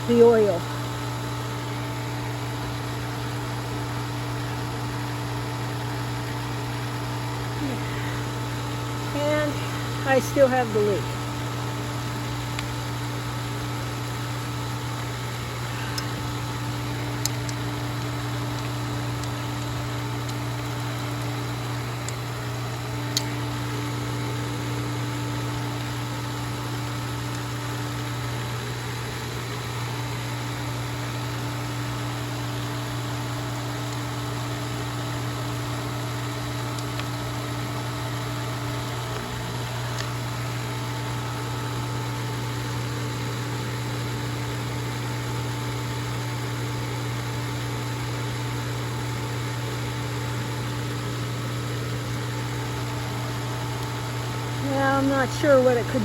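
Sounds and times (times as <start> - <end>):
pool pump motor humming: 0.0 - 56.0.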